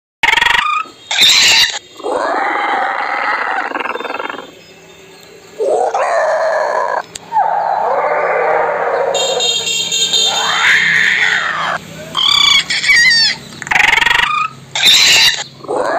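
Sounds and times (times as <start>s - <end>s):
creature calls: 0.2s - 4.5s, 5.6s - 9.5s, 10.3s - 15.9s.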